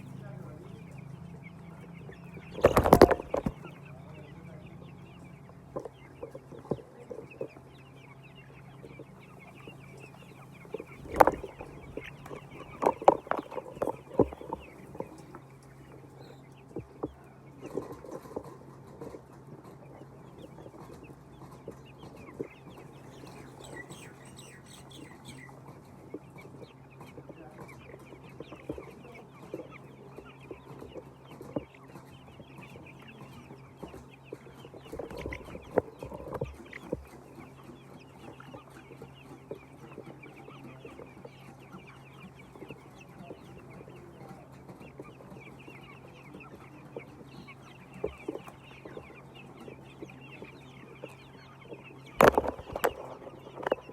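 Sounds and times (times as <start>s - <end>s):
hens clucking and chirping: 0.0s - 53.9s
steady low hum: 0.0s - 53.9s.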